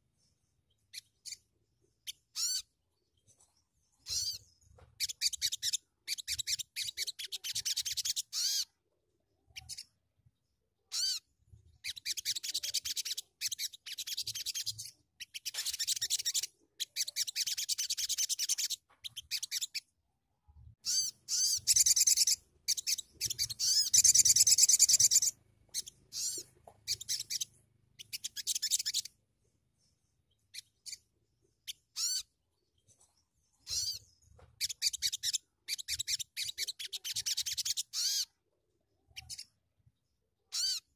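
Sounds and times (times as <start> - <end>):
songbird singing trilled phrases: 0.2 - 8.7, 10.9 - 19.9, 20.8 - 29.2, 29.8 - 38.4.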